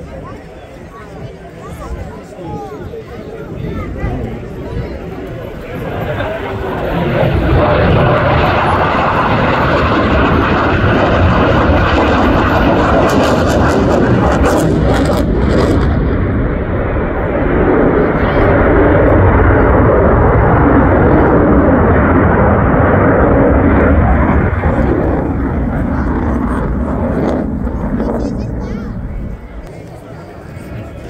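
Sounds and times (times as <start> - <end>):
fighter jet engines: 0.0 - 31.0.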